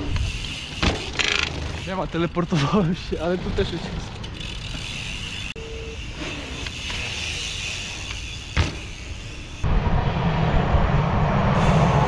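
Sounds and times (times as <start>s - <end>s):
low rumble of street traffic: 0.0s - 12.0s
outdoor background noise: 0.0s - 12.0s.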